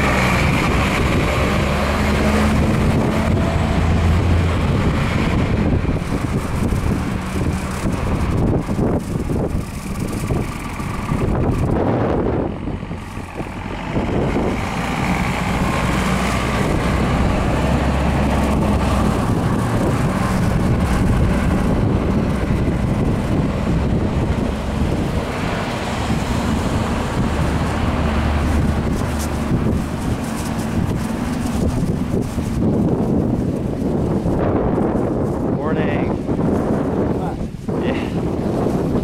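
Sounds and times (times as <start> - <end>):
vehicle engine running: 0.0 - 39.0
wind noise: 0.0 - 39.0.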